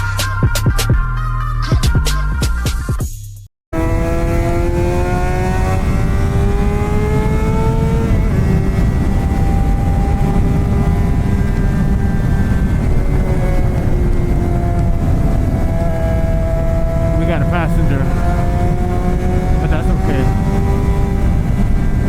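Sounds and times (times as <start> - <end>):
motorcycle engine accelerating: 3.8 - 22.0
wind rumble on microphone: 3.8 - 22.0.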